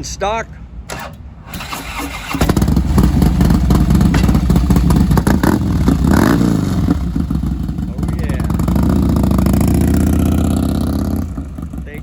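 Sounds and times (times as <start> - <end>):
motorcycle engine running loudly: 2.4 - 12.0.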